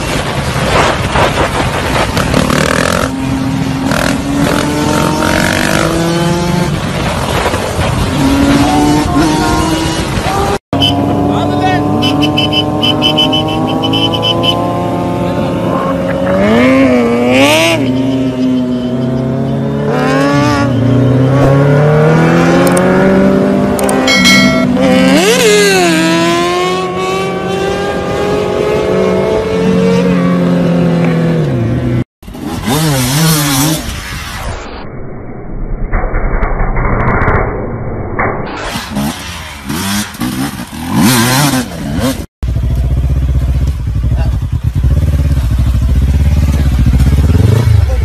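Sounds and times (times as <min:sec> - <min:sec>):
motorcycle engines revving: 0:00.0 - 0:34.4, 0:38.7 - 0:48.0.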